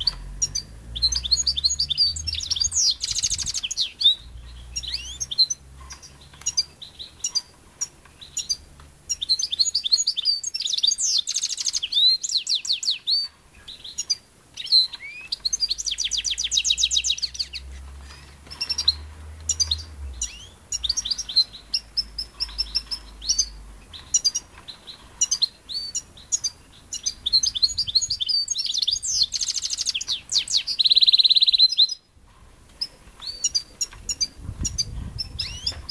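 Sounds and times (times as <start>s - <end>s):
songbirds twittering: 0.0s - 35.9s.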